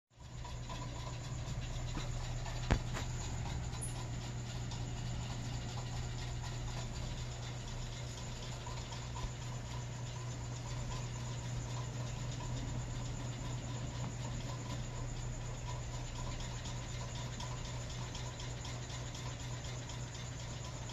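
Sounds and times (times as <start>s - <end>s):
room hum and hiss: 0.2s - 20.9s.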